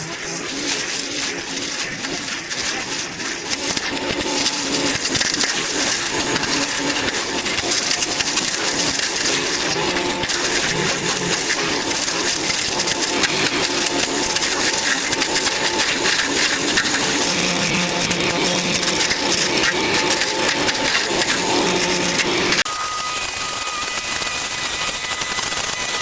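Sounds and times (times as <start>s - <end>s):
dry vegetation crackling and crunching: 0.2s - 22.7s.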